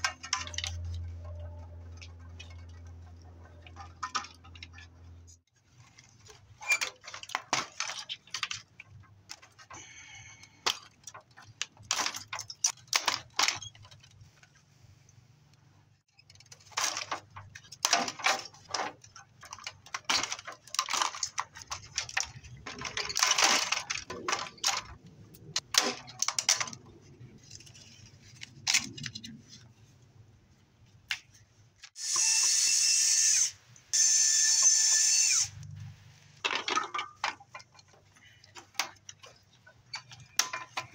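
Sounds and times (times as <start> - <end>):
plastic parts clicking and rattling: 0.0 - 14.6, 16.1 - 29.7, 36.4 - 40.9.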